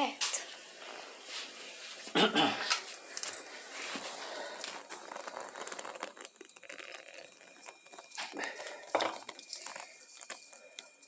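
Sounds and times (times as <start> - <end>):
fire crackling: 0.3 - 11.0.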